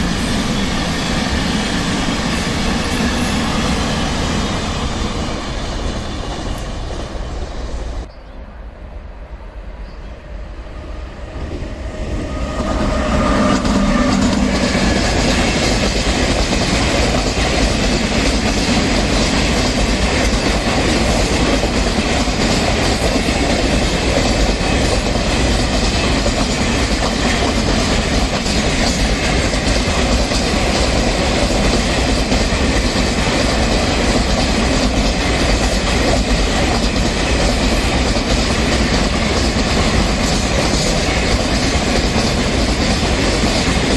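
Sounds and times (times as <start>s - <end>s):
train wheels clattering over rails: 0.0s - 8.1s, 11.6s - 43.9s.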